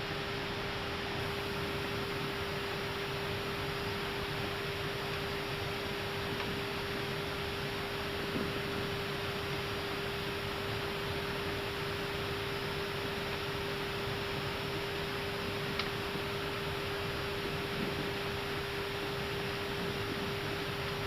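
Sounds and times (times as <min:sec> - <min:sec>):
airflow and ventilation rush: 0:00.0 - 0:21.0
electrical hum: 0:00.0 - 0:21.0.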